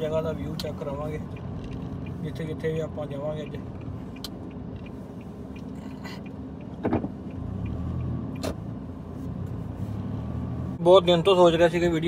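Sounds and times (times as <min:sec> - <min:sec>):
car engine hum and tyres: 0:00.0 - 0:12.0.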